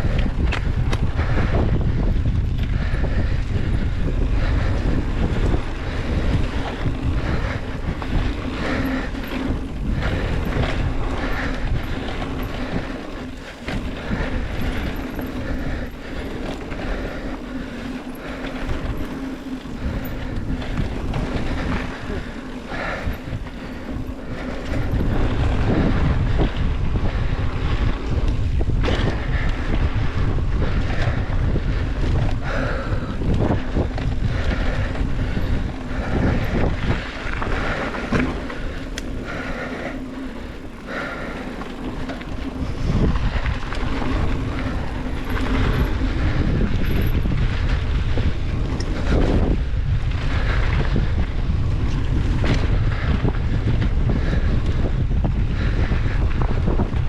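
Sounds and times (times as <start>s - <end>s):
bike knocks and rattles: 0.0s - 57.0s
wind buffeting microphone: 0.0s - 57.0s.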